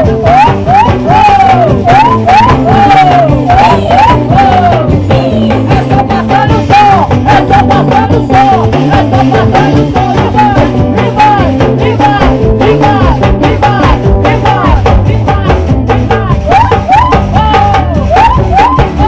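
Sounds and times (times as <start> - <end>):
live band playing upbeat music: 0.0 - 19.0
quick drum beat: 0.0 - 19.0.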